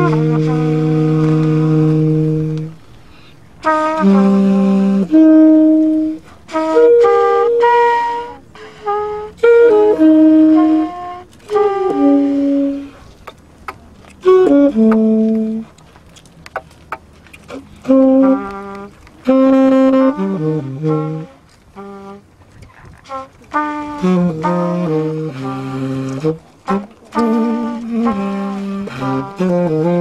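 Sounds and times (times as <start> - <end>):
tenor saxophone jazz phrases: 0.0 - 15.8, 17.4 - 30.0.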